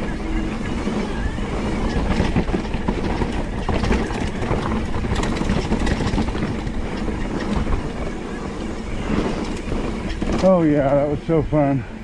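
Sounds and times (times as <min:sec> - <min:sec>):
bike clicks and rattles: 0:00.0 - 0:12.0
tyres rolling on rough ground: 0:00.0 - 0:12.0
wind rushing over microphone: 0:00.0 - 0:12.0.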